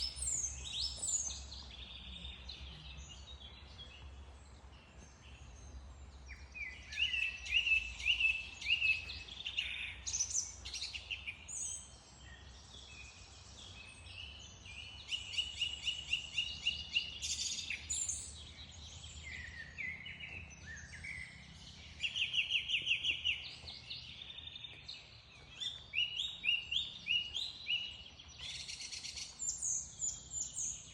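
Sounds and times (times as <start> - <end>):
songbirds singing: 0.0 - 30.9.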